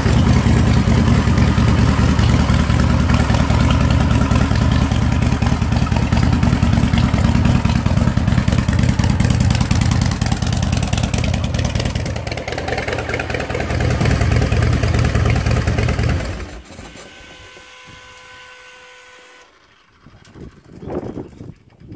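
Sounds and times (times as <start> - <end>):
motorcycle engine running loud: 0.0 - 16.6, 19.5 - 21.9.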